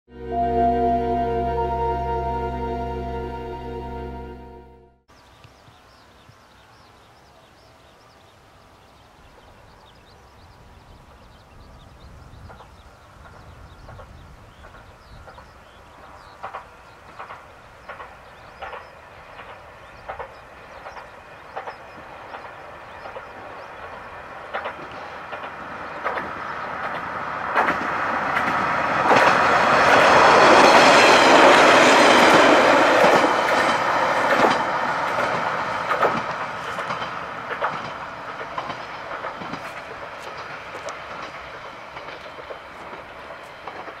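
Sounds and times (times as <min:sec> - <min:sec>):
diesel railcar passing: 0:00.1 - 0:05.0, 0:09.7 - 0:44.0.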